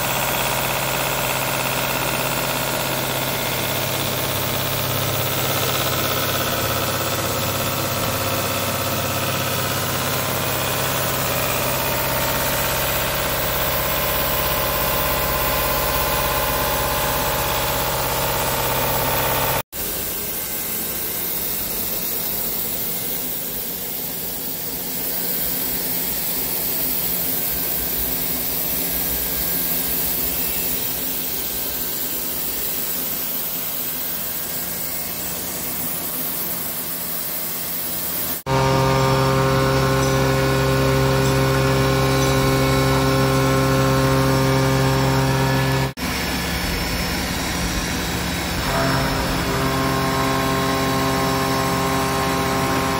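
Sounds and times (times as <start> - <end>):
lathe humming and whining: 0.0 - 52.9.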